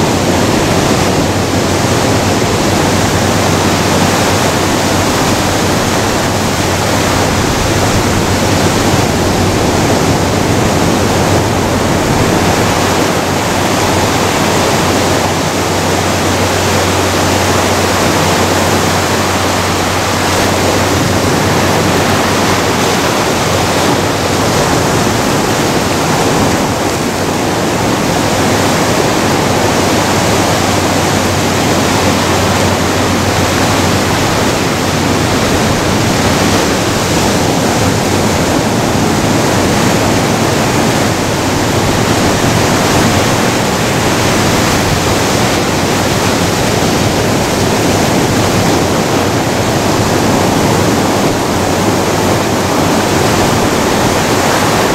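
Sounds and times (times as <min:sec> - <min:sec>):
ocean surf breaking on rocks: 0:00.0 - 0:54.9.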